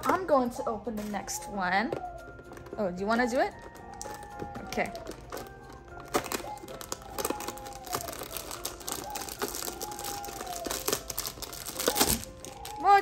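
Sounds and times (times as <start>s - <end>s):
plastic wrapper crinkling: 2.1s - 13.0s.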